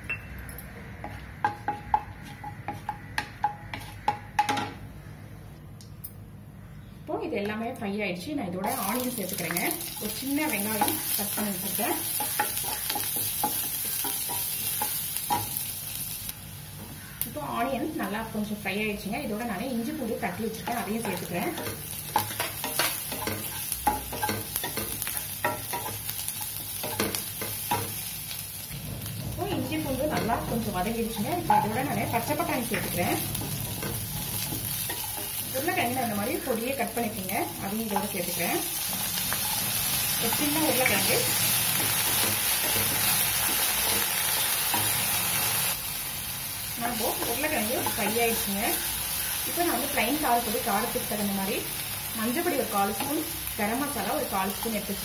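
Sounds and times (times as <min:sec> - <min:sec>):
spices frying in oil: 0:08.6 - 0:55.0.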